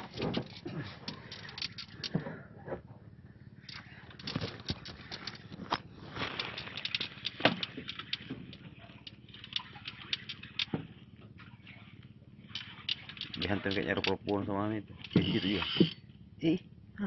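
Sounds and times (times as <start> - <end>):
fishing rod and reel clicks: 0.0 - 2.2, 3.6 - 16.1.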